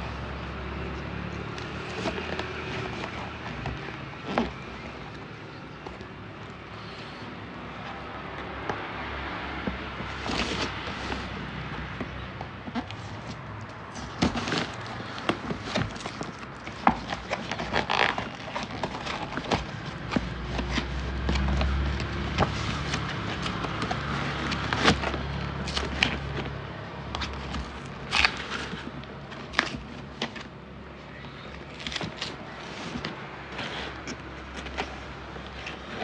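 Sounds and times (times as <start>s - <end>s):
cardboard box crackling and rustling: 0.0s - 36.0s.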